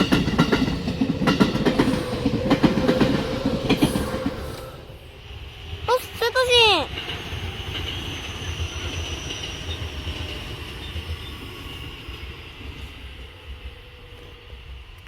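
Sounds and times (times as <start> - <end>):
electric train rumbling on rails: 0.0 - 15.0.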